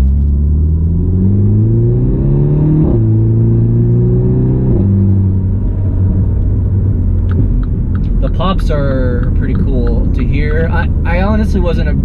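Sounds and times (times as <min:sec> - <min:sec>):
car engine accelerating and shifting: 0:00.0 - 0:12.0.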